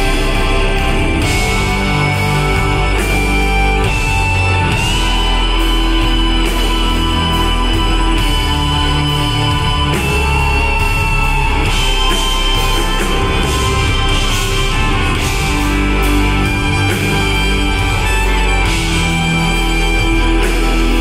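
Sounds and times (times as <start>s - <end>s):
held high lead guitar note: 0.0s - 21.0s
rock band playing live: 0.0s - 21.0s.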